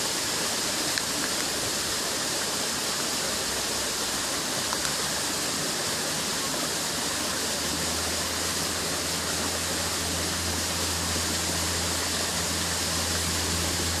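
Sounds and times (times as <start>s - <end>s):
low steady hum: 0.0s - 14.0s
running water rushing: 0.0s - 14.0s.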